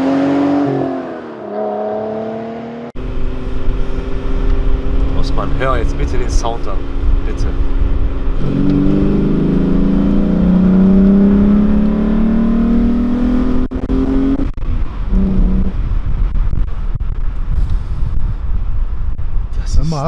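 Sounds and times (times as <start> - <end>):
car engine accelerating: 0.0 - 17.6
road noise: 0.0 - 20.0.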